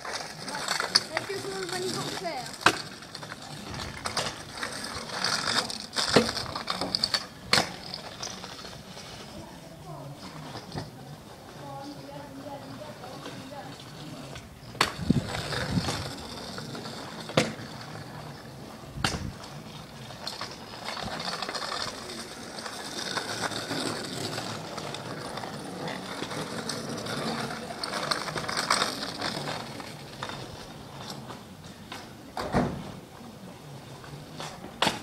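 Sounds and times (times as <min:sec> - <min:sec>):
scooter wheels rolling on asphalt: 0:00.0 - 0:35.0.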